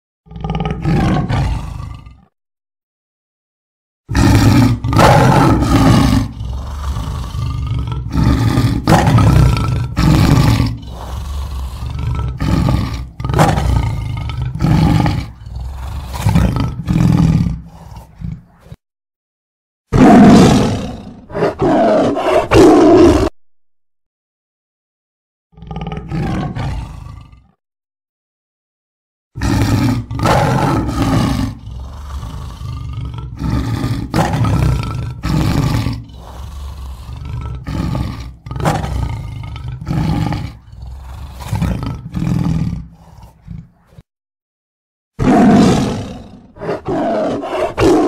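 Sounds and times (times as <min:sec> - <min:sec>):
tiger roaring: 0:00.3 - 0:02.3, 0:04.1 - 0:18.8, 0:19.9 - 0:23.4, 0:25.6 - 0:27.6, 0:29.4 - 0:44.1, 0:45.2 - 0:48.0.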